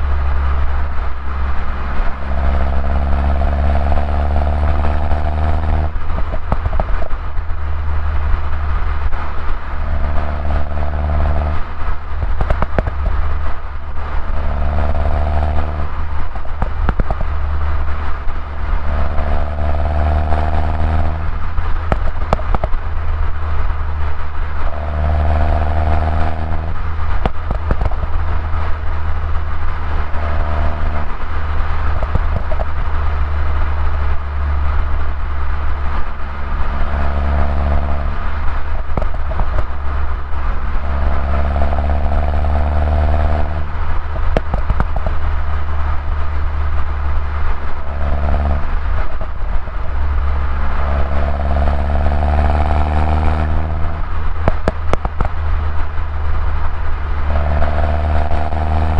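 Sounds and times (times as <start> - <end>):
car engine droning: 0.0 - 58.9
exhaust crackles: 0.0 - 58.9.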